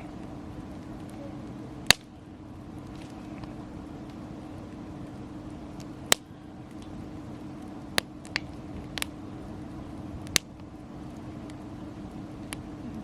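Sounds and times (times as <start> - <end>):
firewood crackling and popping: 0.0 - 13.0
low background hum: 0.0 - 13.0.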